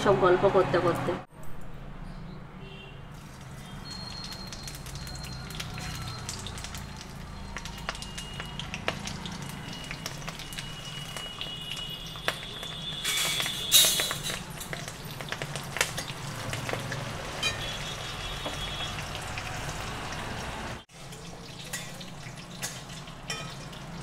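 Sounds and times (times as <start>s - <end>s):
vegetables frying in oil: 3.1s - 24.0s.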